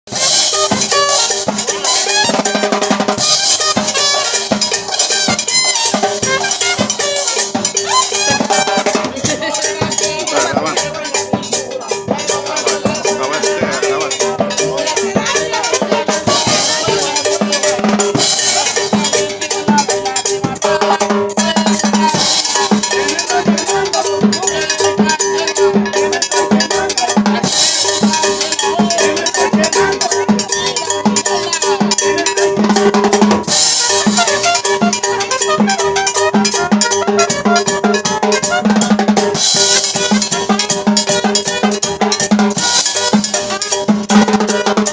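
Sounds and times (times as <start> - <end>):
cowbell: 0.1 - 44.9
dance band playing: 0.1 - 44.9.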